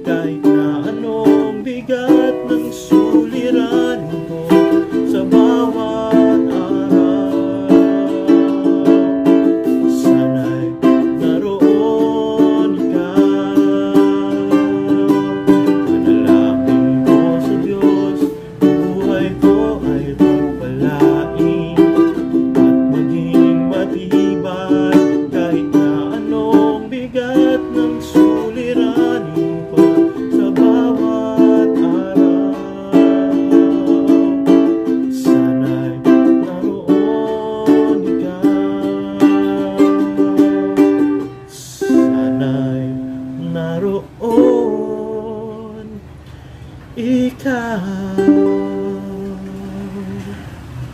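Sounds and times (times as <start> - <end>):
ukulele strumming: 0.0 - 50.6.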